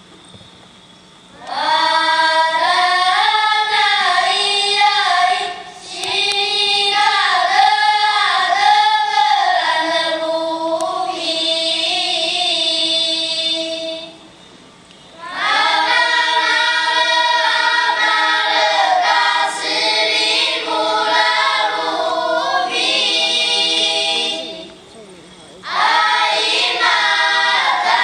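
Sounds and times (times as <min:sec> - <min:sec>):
children's choir singing: 0:01.4 - 0:14.4, 0:15.1 - 0:24.9, 0:25.6 - 0:28.0.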